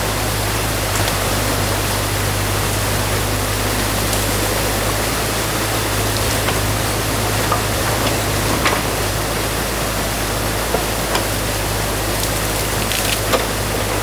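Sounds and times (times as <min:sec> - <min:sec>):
excavator engine drone: 0:00.0 - 0:14.0
water rushing: 0:00.0 - 0:14.0.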